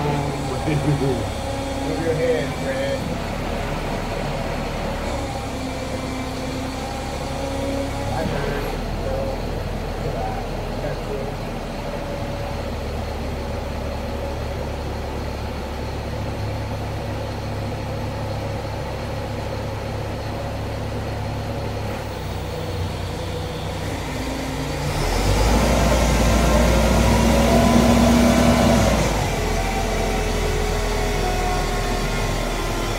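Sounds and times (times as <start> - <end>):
truck engine running and revving: 0.0 - 32.9.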